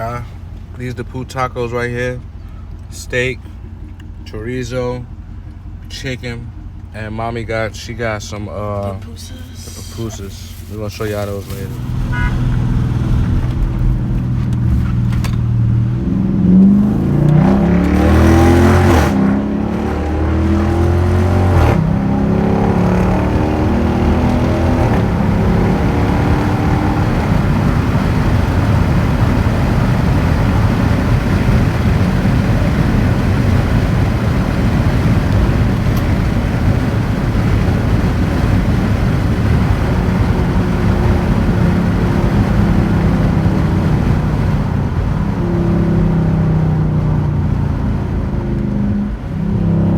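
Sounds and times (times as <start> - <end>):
car engine accelerating: 0.0 - 49.9
road noise: 0.0 - 49.9.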